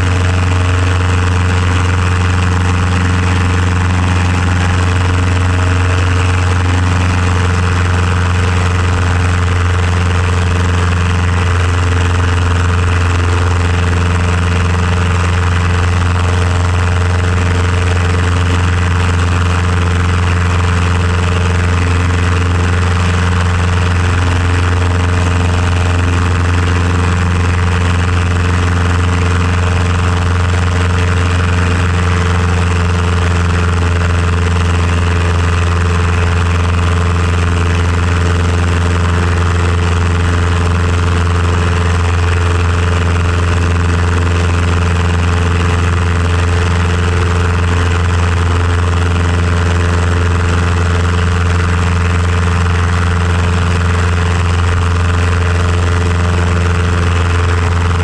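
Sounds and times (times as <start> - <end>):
airplane engine droning: 0.0 - 58.0
propeller and wind noise: 0.0 - 58.0.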